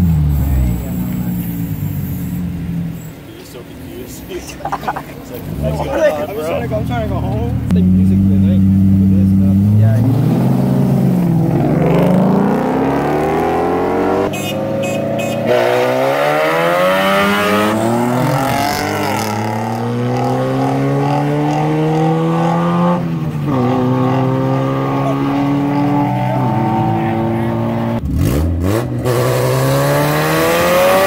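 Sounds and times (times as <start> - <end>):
cars accelerating hard: 4.4 - 31.0.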